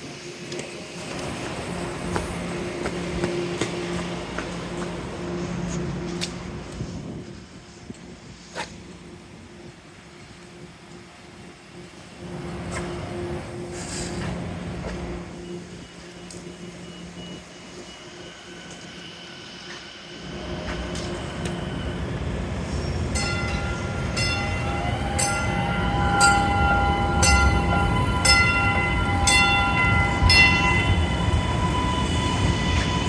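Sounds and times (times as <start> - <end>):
high whine: 0.0 - 33.0
light-rail train rolling in: 0.0 - 33.0.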